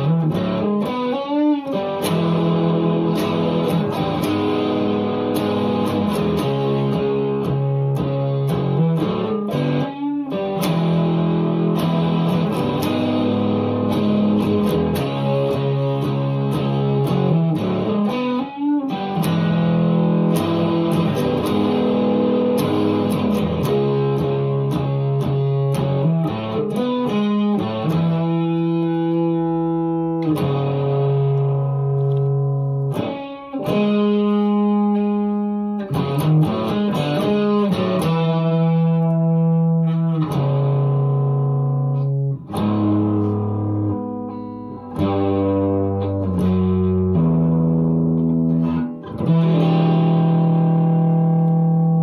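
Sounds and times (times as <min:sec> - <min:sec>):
distorted electric guitar strumming chords: 0:00.0 - 0:52.0.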